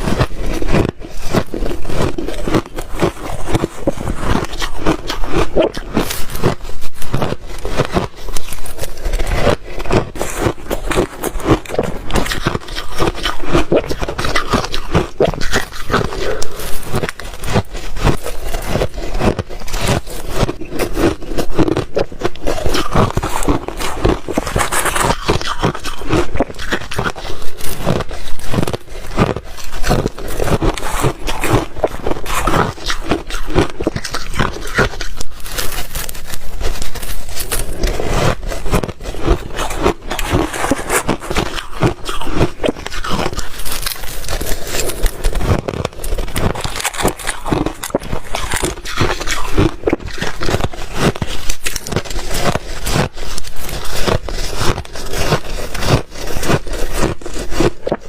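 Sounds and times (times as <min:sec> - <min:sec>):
ice being chewed and crunched: 0:00.0 - 0:58.0.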